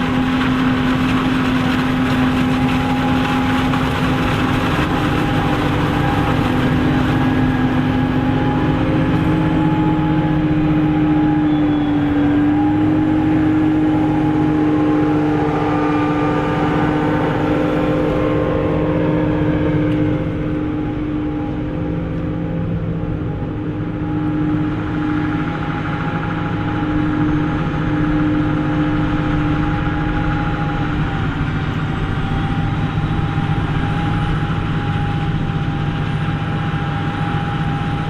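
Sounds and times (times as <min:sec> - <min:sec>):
heavy farm machinery engine drone: 0:00.0 - 0:38.0.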